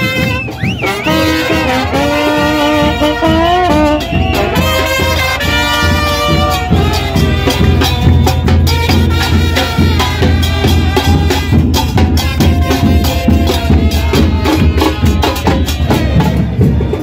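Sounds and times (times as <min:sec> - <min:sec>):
trombone holding notes: 0:00.0 - 0:16.0
bass drums pounding: 0:00.0 - 0:17.0.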